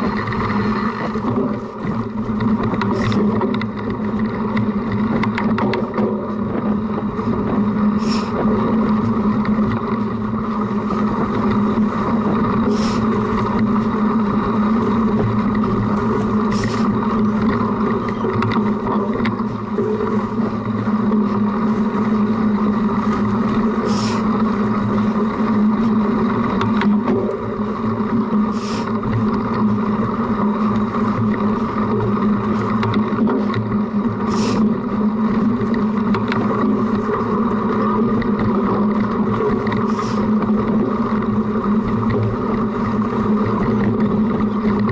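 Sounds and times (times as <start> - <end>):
bike rattling over rough ground: 0.0 - 44.9.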